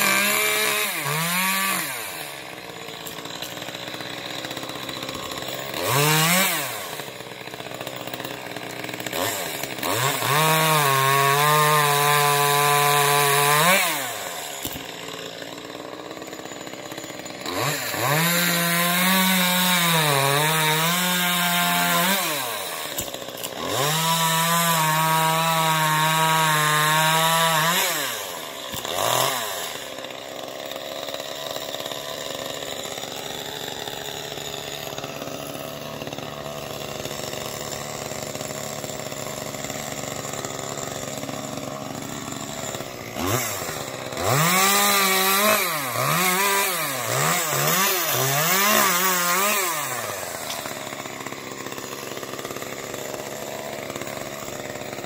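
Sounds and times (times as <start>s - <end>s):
chainsaw running and idling: 0.0s - 55.0s.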